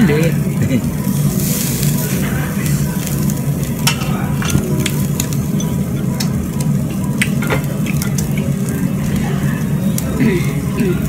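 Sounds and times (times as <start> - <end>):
meat sizzling on a grill: 0.0 - 11.0
steady low hum: 0.0 - 11.0.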